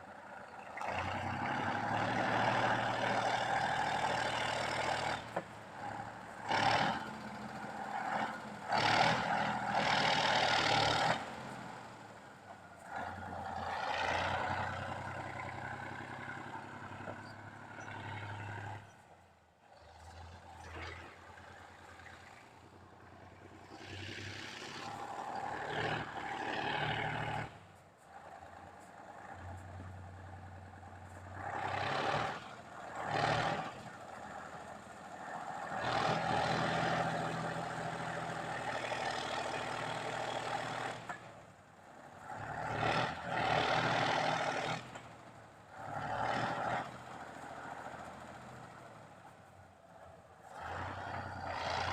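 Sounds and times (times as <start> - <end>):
tractor diesel engine revving: 0.2 - 19.0, 19.6 - 49.3, 50.4 - 51.9.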